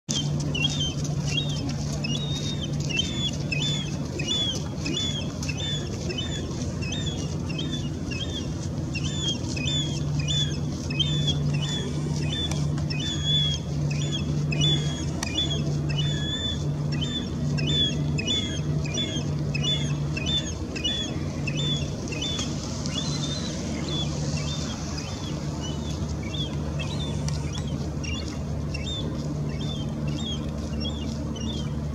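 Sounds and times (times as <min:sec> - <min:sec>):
gull begging calls: 0:00.1 - 0:31.7
low steady hum: 0:00.1 - 0:31.9.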